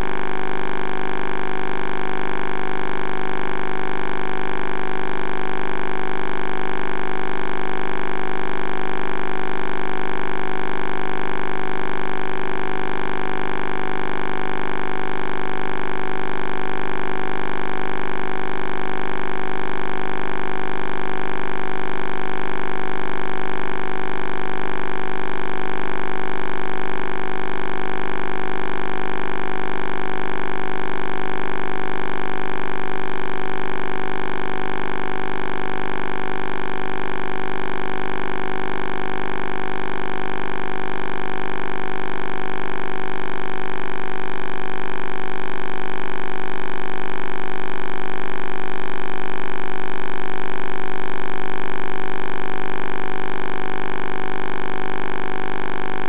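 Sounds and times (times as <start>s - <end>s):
loud steady multi-tone hum: 0.0s - 56.0s.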